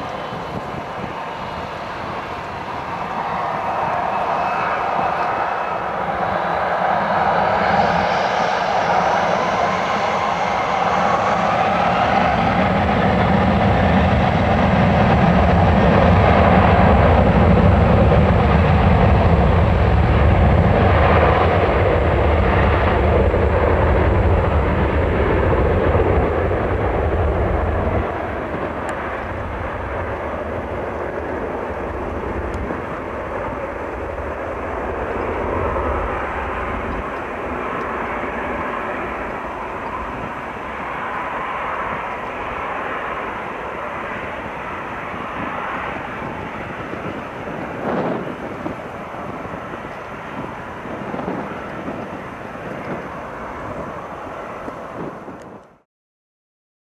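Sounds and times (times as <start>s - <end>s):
jet engines roaring: 0.0s - 55.8s.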